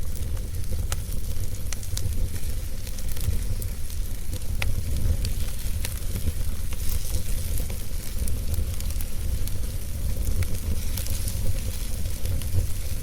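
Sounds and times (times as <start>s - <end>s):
low fire rumble: 0.0s - 13.0s
wood fire crackling: 0.0s - 13.0s
sharp pops and ticks: 0.1s - 13.0s.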